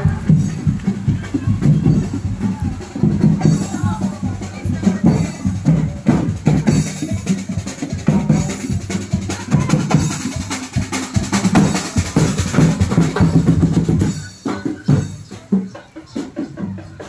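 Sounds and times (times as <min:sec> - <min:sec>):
drum corps marching beat: 0:00.0 - 0:17.0.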